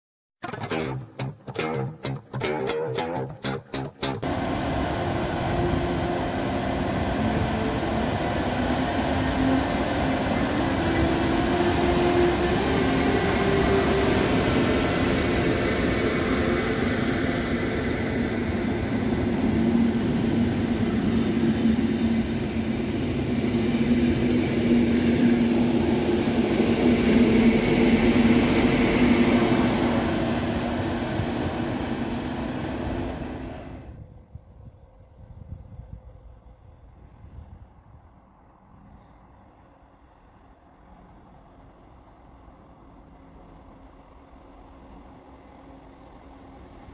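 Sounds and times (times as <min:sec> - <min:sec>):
electric train running past: 0:00.5 - 0:46.9.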